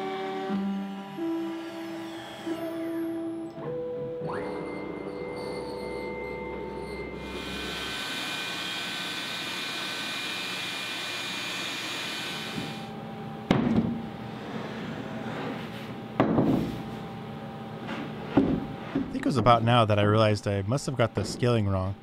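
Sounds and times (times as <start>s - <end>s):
shop vacuum whining: 0.0s - 22.0s.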